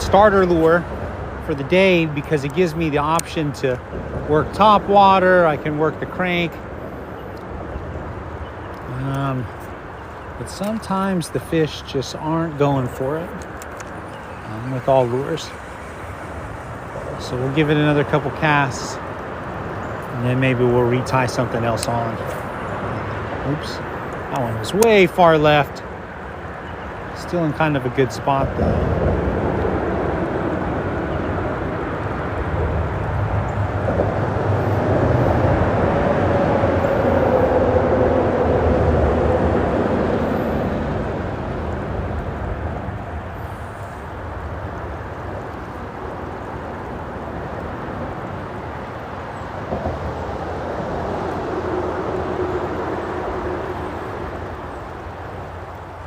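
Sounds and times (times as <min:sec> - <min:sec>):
freeway traffic rushing: 0:00.0 - 0:56.0.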